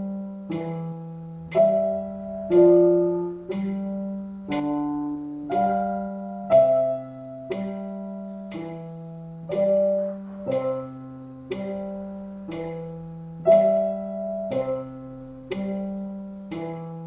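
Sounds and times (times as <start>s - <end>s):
digital piano playing: 0.0s - 17.0s.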